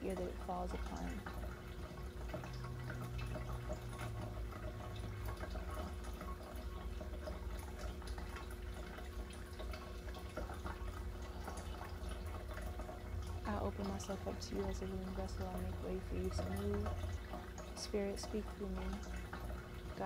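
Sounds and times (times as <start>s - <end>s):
water dripping and trickling: 0.0s - 20.0s.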